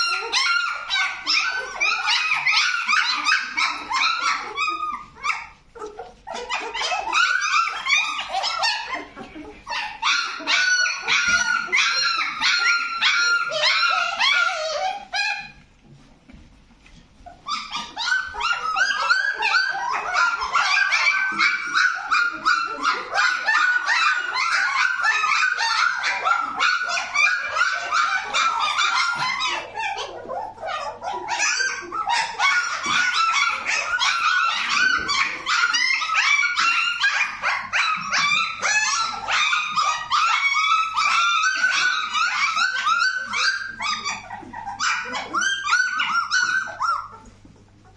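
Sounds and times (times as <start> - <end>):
puppies whining and squealing: 0.0 - 47.9.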